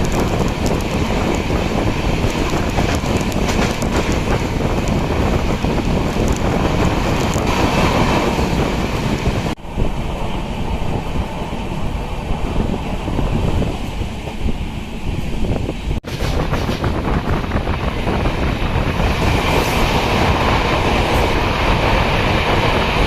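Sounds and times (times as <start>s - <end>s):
train wheels rumbling on rails: 0.0s - 23.0s
wind buffeting microphone: 0.0s - 23.0s.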